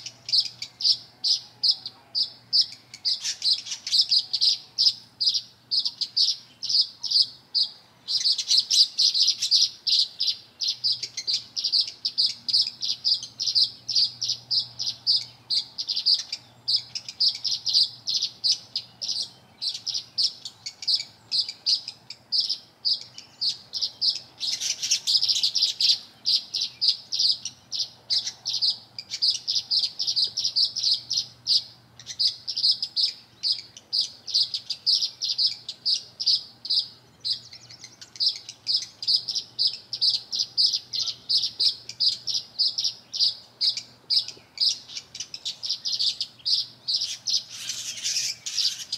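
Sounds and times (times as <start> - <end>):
songbirds chirping rapidly: 0.0 - 48.9.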